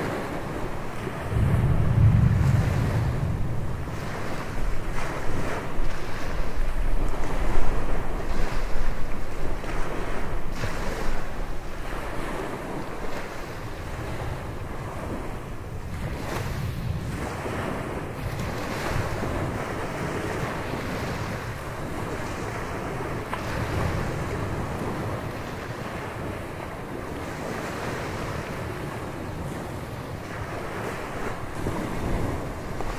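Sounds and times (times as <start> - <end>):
surf breaking on beach: 0.0 - 32.9
wind buffeting microphone: 0.0 - 32.9.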